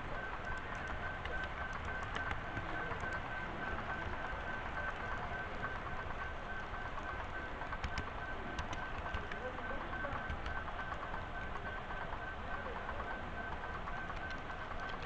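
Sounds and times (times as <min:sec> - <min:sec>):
faint whine: 0:00.0 - 0:15.0.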